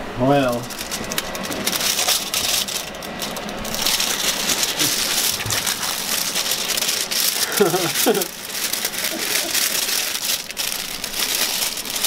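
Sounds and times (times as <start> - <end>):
aluminium foil crinkling: 0.4 - 12.0.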